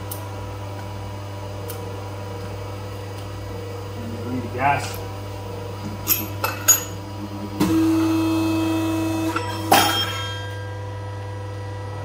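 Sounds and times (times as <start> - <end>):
constant low background hum: 0.0 - 12.0
pitched hum with hiss: 0.0 - 12.0.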